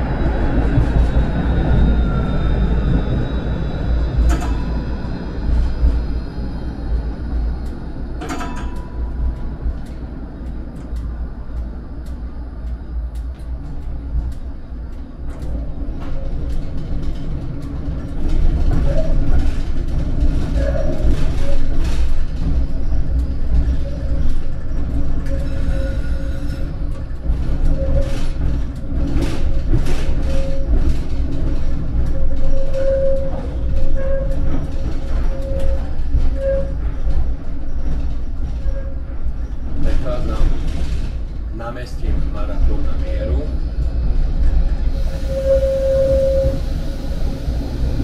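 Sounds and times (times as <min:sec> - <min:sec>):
tram rumbling along track: 0:00.0 - 0:48.0.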